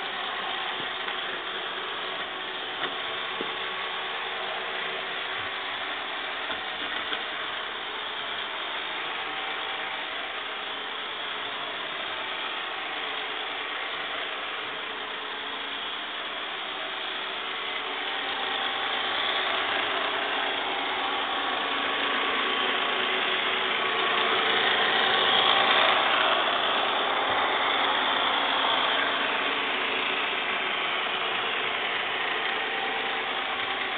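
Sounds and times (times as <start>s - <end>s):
robot vacuum cleaner whirring: 0.0s - 33.9s.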